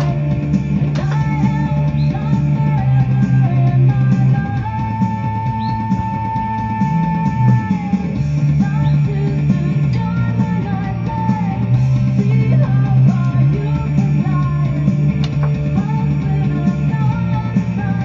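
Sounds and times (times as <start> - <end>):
rock song with guitar and singing: 0.0 - 18.0.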